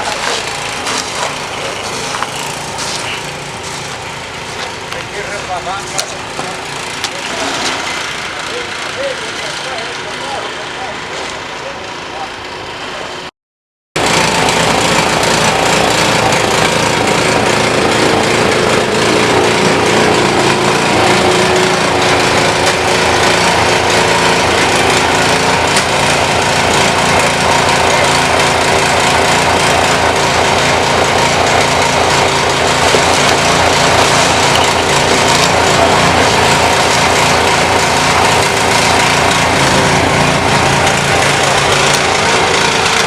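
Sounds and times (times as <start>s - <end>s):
small engine droning: 0.0s - 13.2s, 14.0s - 43.0s.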